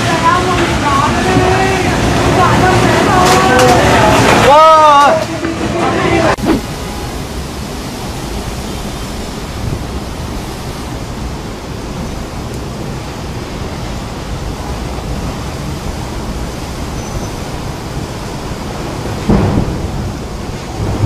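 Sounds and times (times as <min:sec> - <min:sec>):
heavy rain: 0:00.0 - 0:21.0
strong wind: 0:00.0 - 0:21.0.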